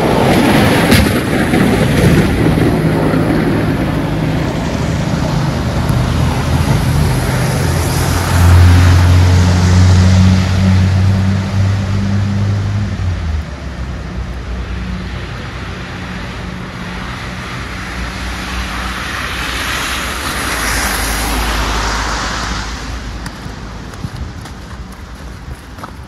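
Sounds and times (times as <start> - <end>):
low engine hum: 0.0 - 20.0, 20.8 - 26.0
car tyres rushing on snow: 0.0 - 26.0.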